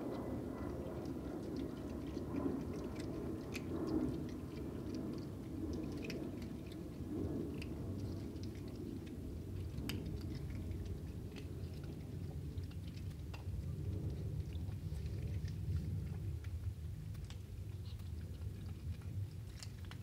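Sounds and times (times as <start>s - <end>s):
kittens crunching dry kibble: 0.0s - 20.0s
steady low rumble: 0.0s - 20.0s.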